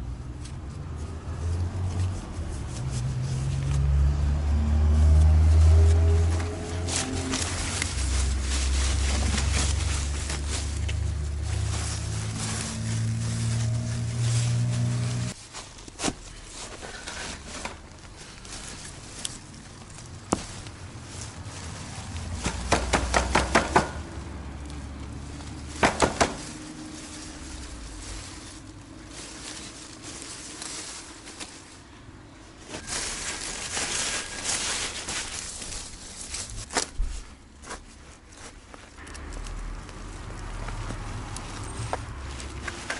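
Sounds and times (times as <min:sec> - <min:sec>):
dry leaves rustling: 0:00.0 - 0:42.9
soil and roots knocking: 0:01.6 - 0:42.9.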